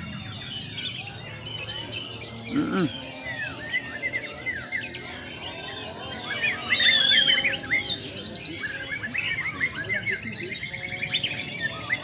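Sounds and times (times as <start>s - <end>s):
birds singing whistled chirps: 0.0s - 12.0s.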